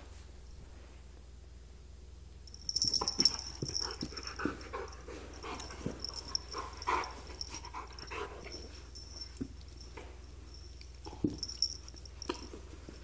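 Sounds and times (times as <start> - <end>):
dog noises and breaths: 2.6 - 13.0.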